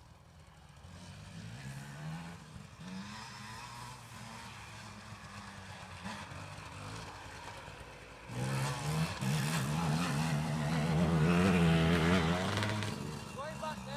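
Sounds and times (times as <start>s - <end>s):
motocross bike engines: 0.0s - 13.9s.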